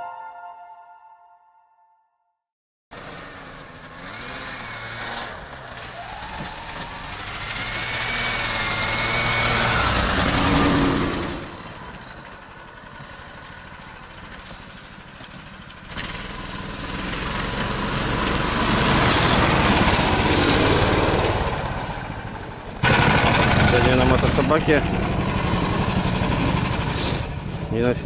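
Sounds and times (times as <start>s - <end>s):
tracked towing unit engine: 2.9s - 28.0s.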